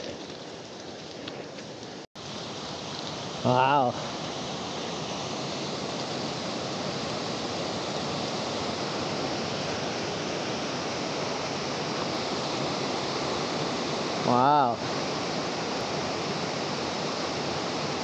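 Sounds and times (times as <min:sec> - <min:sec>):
fast water rushing: 0:00.0 - 0:18.0.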